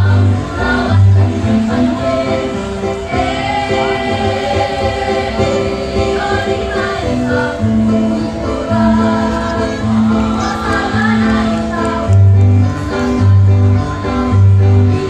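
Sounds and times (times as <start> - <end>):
girls' choir singing: 0.0 - 15.0.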